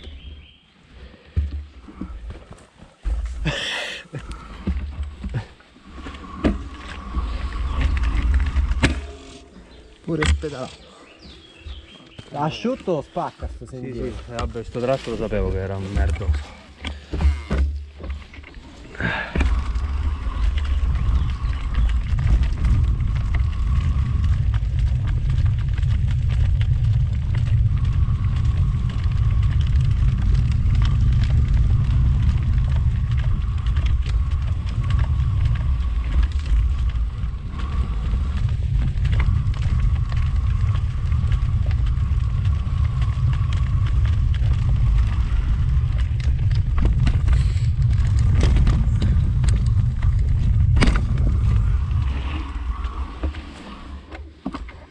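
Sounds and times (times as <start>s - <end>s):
bike knocking and rattling: 0.0s - 54.9s
wind buffeting microphone: 1.6s - 54.1s.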